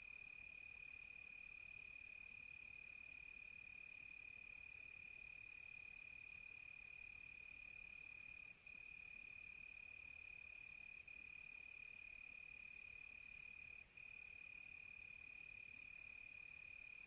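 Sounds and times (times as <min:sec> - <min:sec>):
cricket steady trill: 0:00.0 - 0:17.0.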